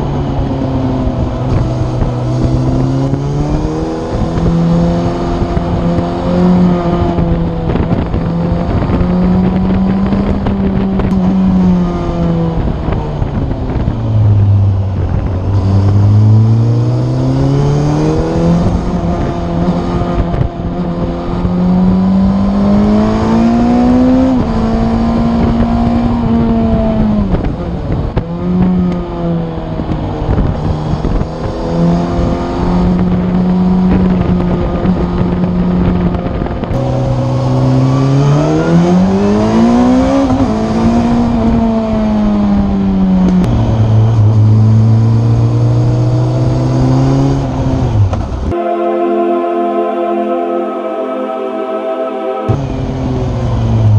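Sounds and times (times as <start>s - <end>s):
wind noise: 0.0s - 48.6s
motorcycle engine accelerating: 0.0s - 48.8s, 52.5s - 53.9s.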